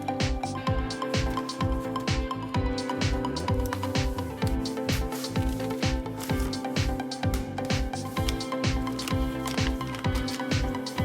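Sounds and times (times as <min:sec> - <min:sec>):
music with steady drum beat: 0:00.0 - 0:11.0.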